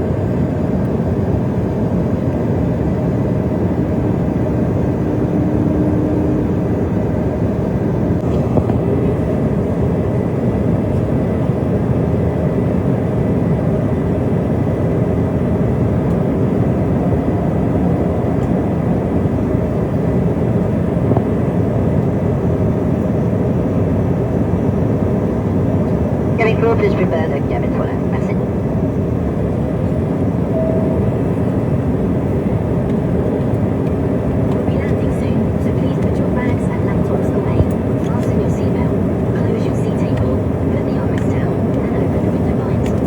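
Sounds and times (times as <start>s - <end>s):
jet engine cabin rumble: 0.0s - 43.0s
faint hum: 1.9s - 43.0s.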